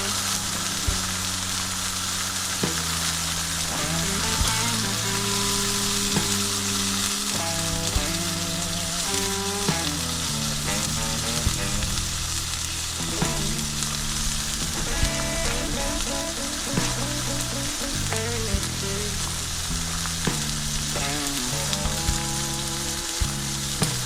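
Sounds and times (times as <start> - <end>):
food sizzling in a frying pan: 0.1 - 24.0.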